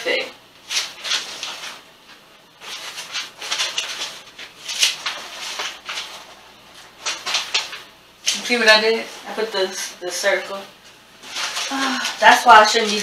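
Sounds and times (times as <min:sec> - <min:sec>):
paper rustling and crinkling: 0:00.6 - 0:09.4, 0:11.2 - 0:13.0.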